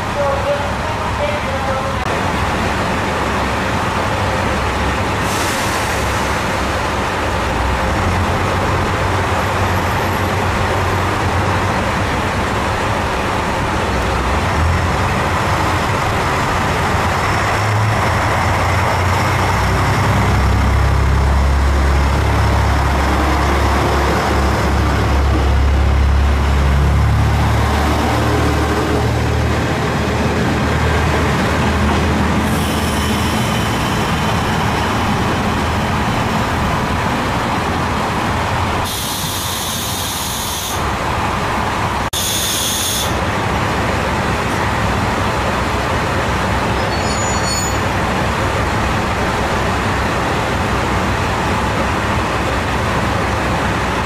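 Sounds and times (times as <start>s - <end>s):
diesel railcar engines rumbling: 0.0s - 54.0s.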